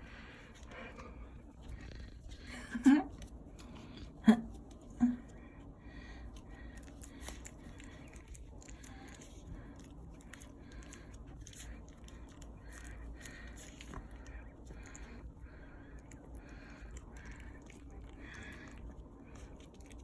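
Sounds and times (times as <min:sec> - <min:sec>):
puppy chewing and gnawing: 0:00.2 - 0:02.5, 0:03.1 - 0:20.0.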